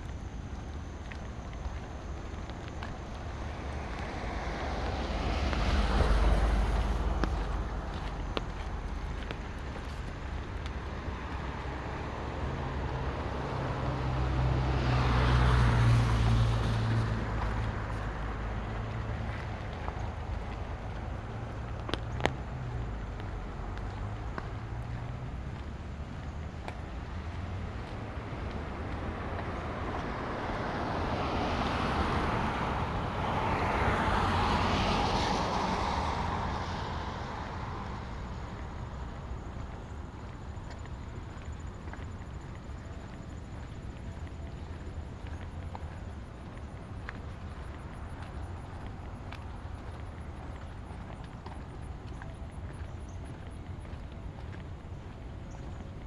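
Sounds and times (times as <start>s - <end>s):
car driving past on wet street: 0.1s - 56.0s.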